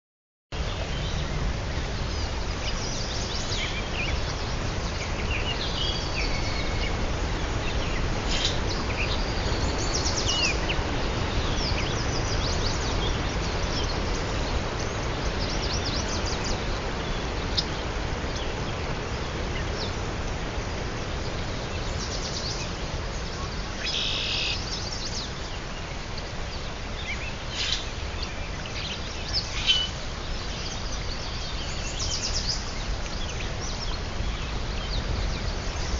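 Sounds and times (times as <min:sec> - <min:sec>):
background rumble and hiss: 0:00.6 - 0:35.9
birds chirping: 0:00.6 - 0:35.9.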